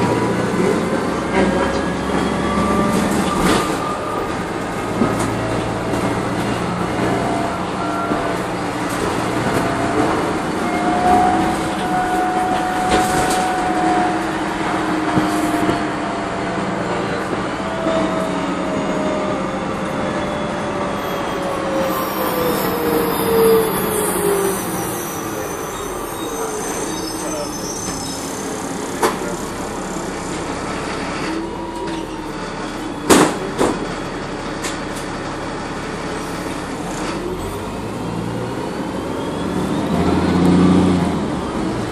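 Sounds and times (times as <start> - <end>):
bus engine and road noise: 0.0 - 41.9.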